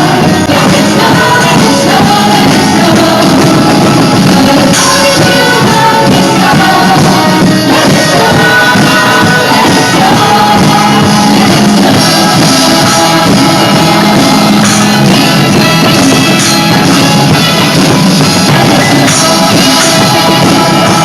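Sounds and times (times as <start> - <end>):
drum beat: 0.0 - 21.0
live band playing: 0.0 - 21.0.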